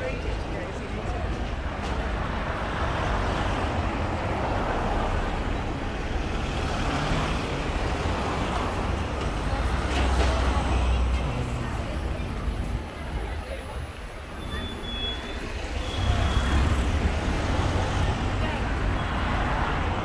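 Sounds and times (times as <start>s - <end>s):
tyre and road noise: 0.0s - 20.0s.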